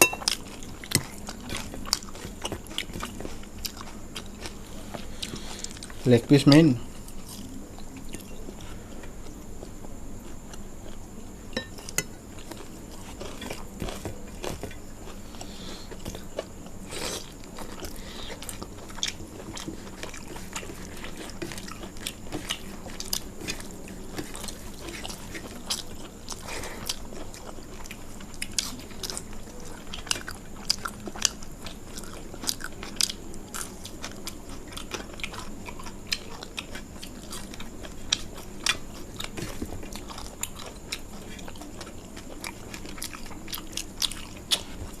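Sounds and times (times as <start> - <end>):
person chewing food: 0.0 - 45.0.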